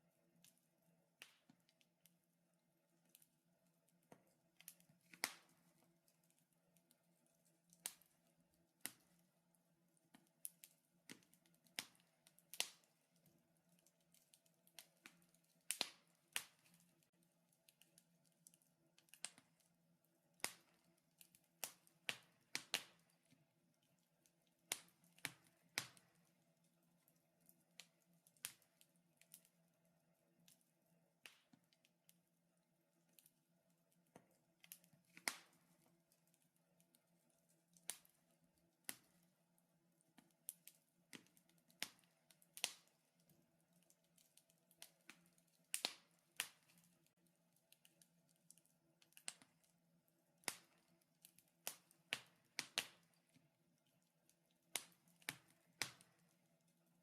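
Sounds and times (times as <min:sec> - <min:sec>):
wood fire crackling: 0:00.0 - 0:02.2, 0:02.9 - 0:32.2, 0:32.9 - 0:57.0.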